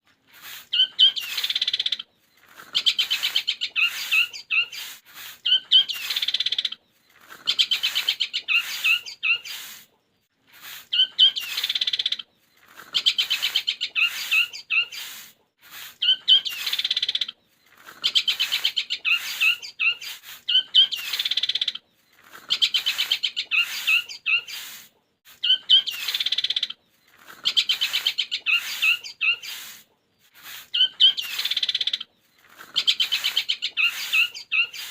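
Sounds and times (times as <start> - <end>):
songbird chirping in rattling trills: 0.1 - 34.9.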